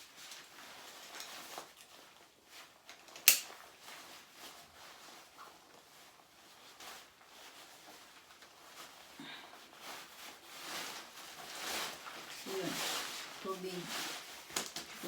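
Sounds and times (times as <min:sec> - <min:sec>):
faint rustling handling noise: 0:00.0 - 0:15.0.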